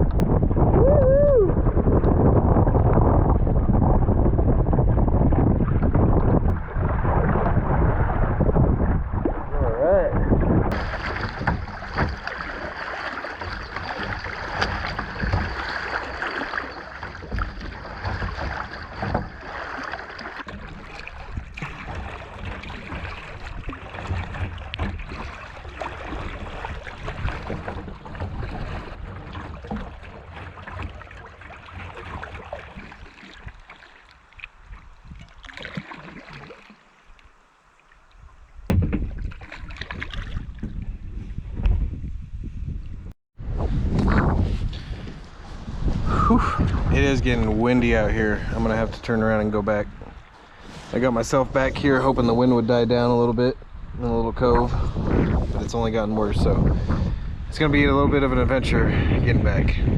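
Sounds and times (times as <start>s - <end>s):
wind on microphone: 0.0s - 33.7s, 34.4s - 35.8s, 38.1s - 59.9s
water slapping hull: 0.0s - 59.9s
paddle splashes: 1.5s - 41.9s, 43.4s - 58.3s.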